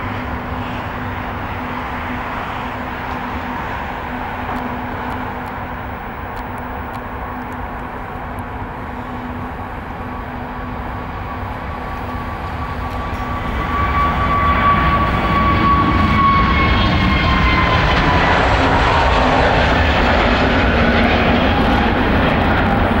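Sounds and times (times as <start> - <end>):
jet engine roar: 0.0 - 23.0
jet engine whine falling: 0.0 - 23.0.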